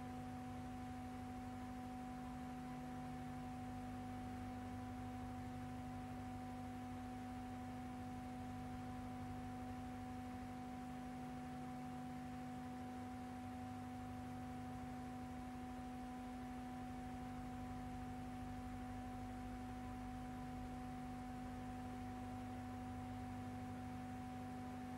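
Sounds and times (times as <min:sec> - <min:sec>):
electrical hum: 0:00.0 - 0:24.9.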